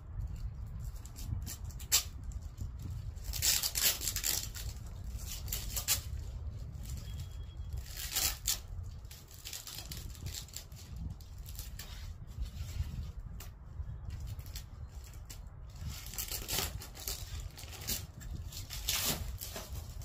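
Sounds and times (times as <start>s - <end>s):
scraping and rustling strokes: 0.1s - 20.0s.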